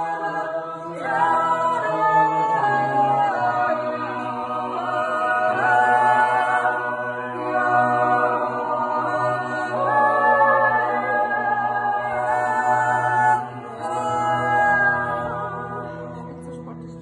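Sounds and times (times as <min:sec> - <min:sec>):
group singing wordless harmony: 0:00.0 - 0:17.0
low held vocal drone: 0:00.0 - 0:17.0.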